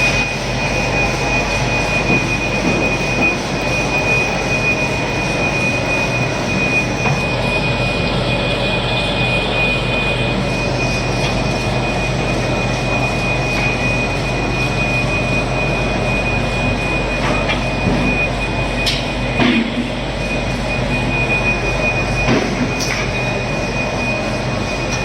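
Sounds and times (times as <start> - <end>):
printing machinery running: 0.0 - 25.0.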